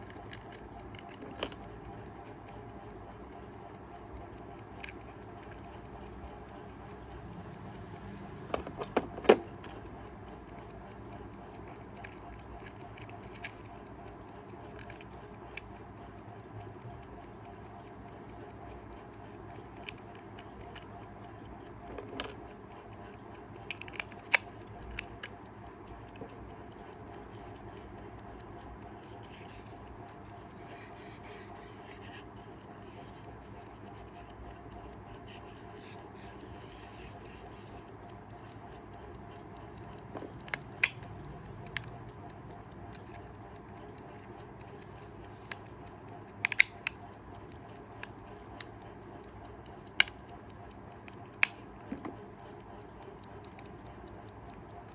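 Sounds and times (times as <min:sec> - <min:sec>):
alarm clock ticking: 0:00.0 - 0:54.9.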